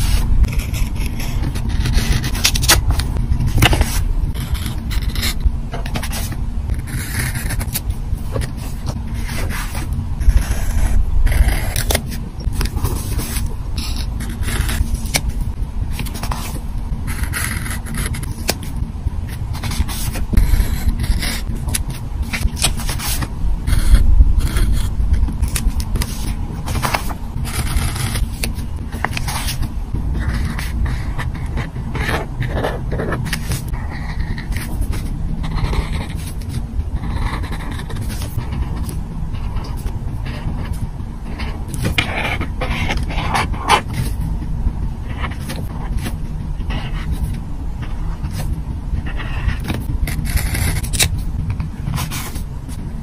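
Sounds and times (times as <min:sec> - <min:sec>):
low rumble: 0:00.0 - 0:53.0.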